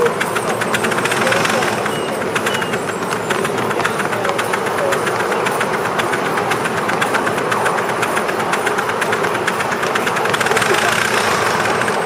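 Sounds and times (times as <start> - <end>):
model steam locomotive beat: 0.0 - 12.0
steady rushing noise: 0.0 - 12.0.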